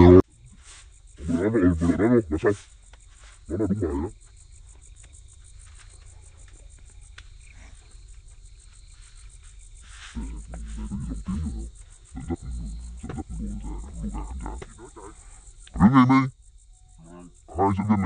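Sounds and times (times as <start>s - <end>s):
crickets chirping: 0.0s - 18.0s
rustling: 0.4s - 15.6s.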